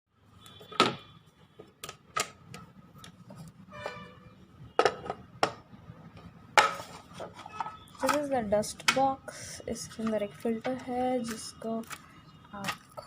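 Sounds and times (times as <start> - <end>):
hard objects clicking and knocking: 0.6 - 3.5, 4.7 - 9.2, 9.8 - 13.0.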